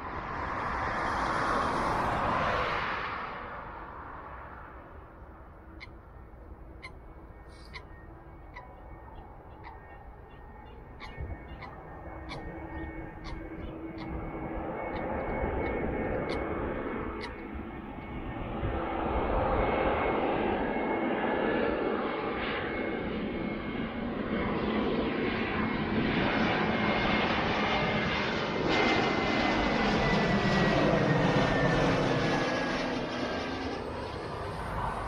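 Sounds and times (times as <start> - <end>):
jet airliner passing overhead: 0.0 - 35.0.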